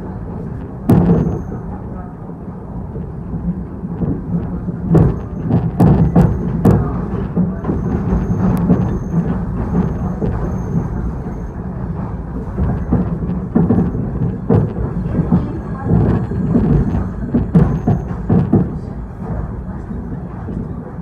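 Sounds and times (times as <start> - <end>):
train wheels rumbling: 0.0 - 21.0
wheels knocking on rail joints: 0.3 - 1.7, 3.5 - 21.0.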